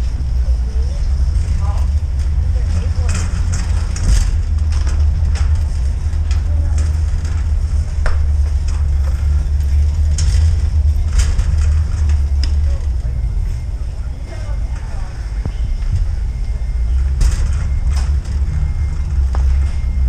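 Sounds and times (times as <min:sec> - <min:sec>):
cart clicks and rattles: 0:00.0 - 0:20.0
shopping cart rolling on concrete: 0:00.0 - 0:20.0.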